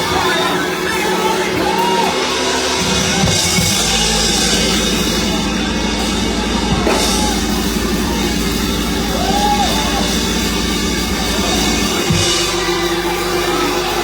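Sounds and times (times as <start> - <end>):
deep steady bass: 0.0 - 14.0
live band music: 0.0 - 14.0.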